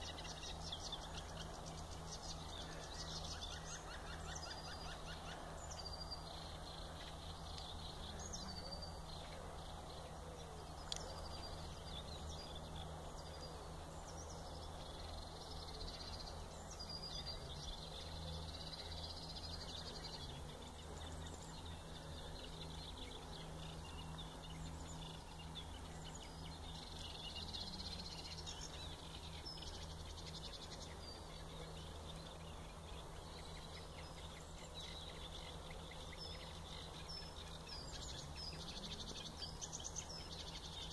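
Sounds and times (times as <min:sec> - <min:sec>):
reed warblers singing: 0:00.0 - 0:40.9
steady low hum: 0:00.0 - 0:40.9.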